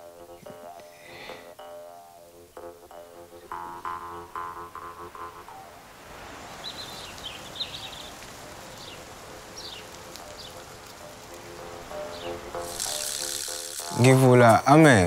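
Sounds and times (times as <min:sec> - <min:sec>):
birds chirping: 0:00.0 - 0:14.6
steady background hiss: 0:00.0 - 0:15.0.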